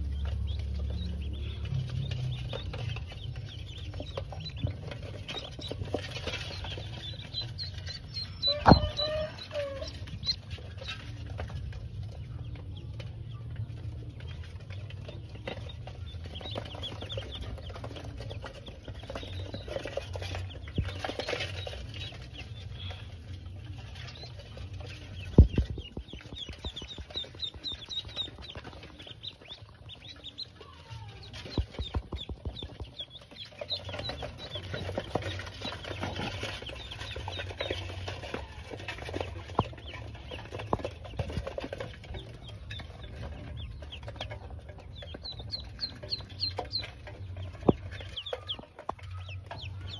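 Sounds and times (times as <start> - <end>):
ducklings peeping: 0.0 - 49.9.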